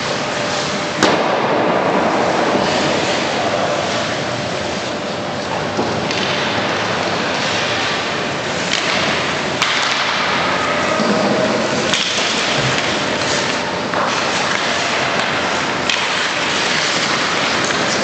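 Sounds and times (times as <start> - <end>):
skate blades scraping ice: 2.2 - 4.8, 6.1 - 18.0
hockey sticks and puck clacking: 2.2 - 18.0.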